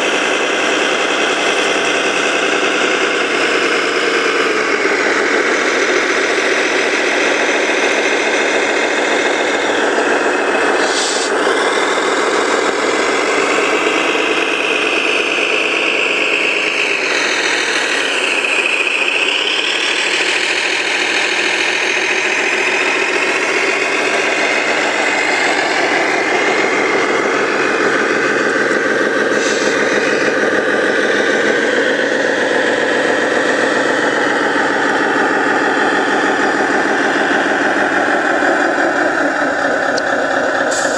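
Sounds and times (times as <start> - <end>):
model truck motors whining: 0.0 - 40.9.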